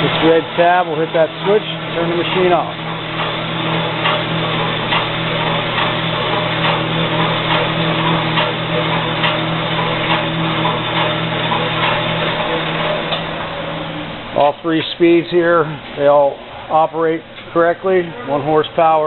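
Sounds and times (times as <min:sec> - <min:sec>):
band saw motor humming: 0:00.0 - 0:19.0.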